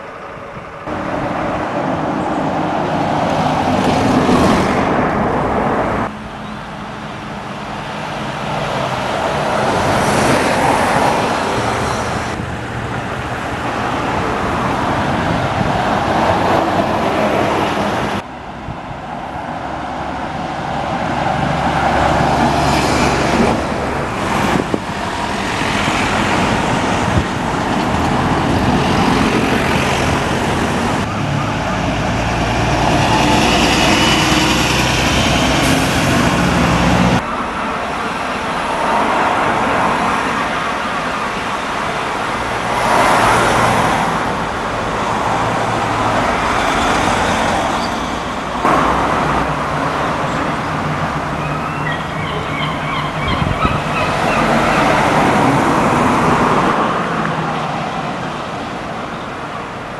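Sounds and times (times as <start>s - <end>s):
buses and cars passing: 0.0s - 59.9s.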